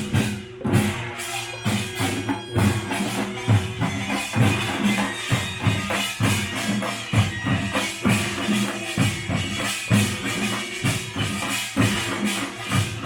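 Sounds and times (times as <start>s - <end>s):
drums beating driving rhythm: 0.0s - 13.0s.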